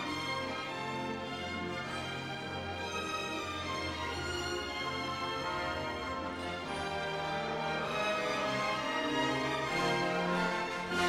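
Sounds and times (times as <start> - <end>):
gentle orchestral music: 0.0 - 11.0.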